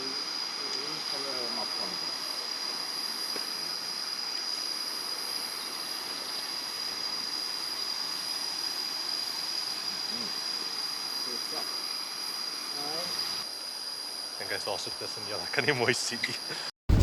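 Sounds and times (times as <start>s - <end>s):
faint hiss: 0.0s - 16.7s
insects droning high-pitched: 0.0s - 16.7s.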